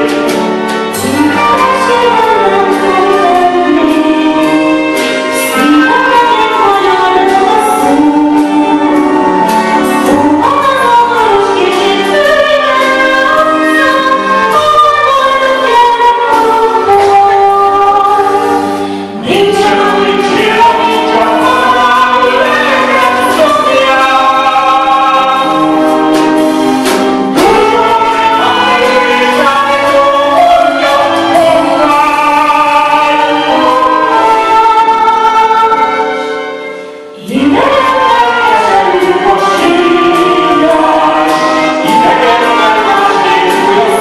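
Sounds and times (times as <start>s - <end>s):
woman singing into a microphone: 0.0s - 26.5s, 27.2s - 44.0s
live band playing: 0.0s - 44.0s.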